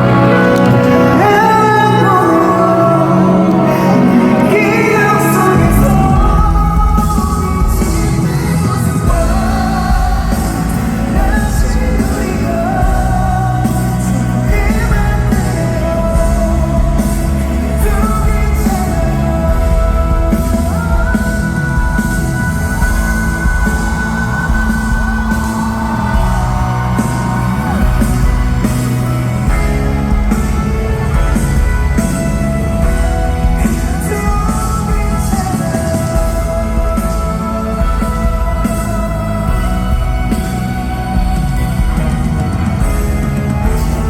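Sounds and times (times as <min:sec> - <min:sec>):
live pop-rock ballad: 0:00.0 - 0:44.0.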